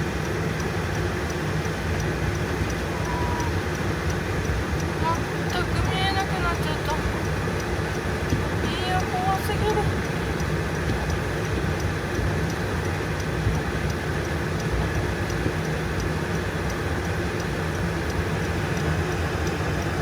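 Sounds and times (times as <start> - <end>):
car cabin engine and road noise: 0.0 - 20.0.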